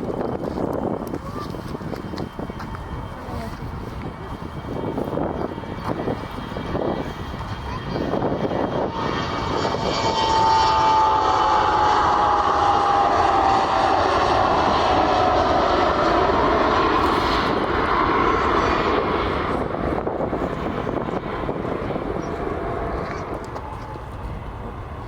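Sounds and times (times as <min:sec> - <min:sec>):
airliner engines passing by: 0:00.0 - 0:25.0.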